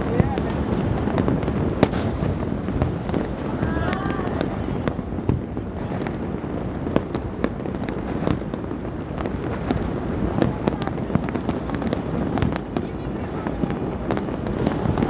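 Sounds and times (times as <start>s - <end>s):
fireworks and firecrackers exploding: 0.0s - 15.0s.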